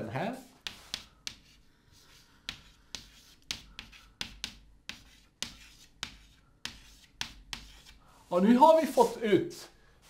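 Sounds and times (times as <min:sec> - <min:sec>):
chalk tapping and scraping blackboard: 0:00.0 - 0:09.2.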